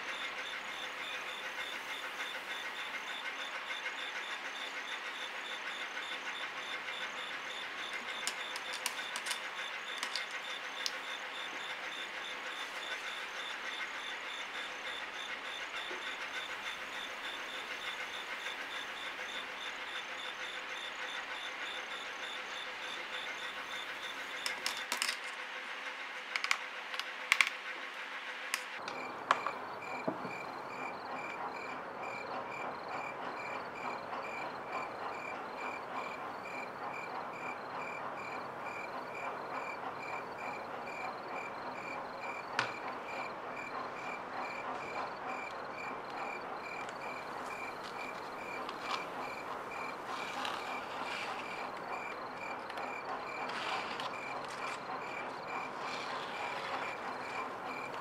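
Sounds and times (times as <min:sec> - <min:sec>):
crickets chirping: 0:00.0 - 0:25.2, 0:28.8 - 0:58.0.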